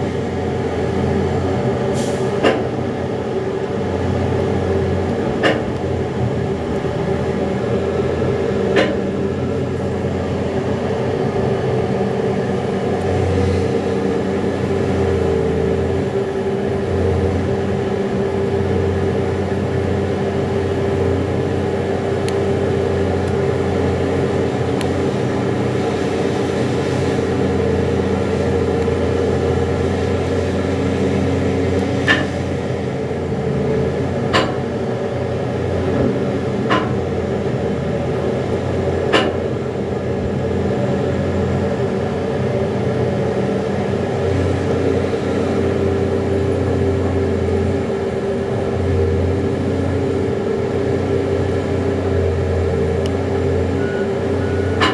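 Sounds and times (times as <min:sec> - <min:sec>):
excavator engine and hydraulic drone: 0:00.0 - 0:54.9.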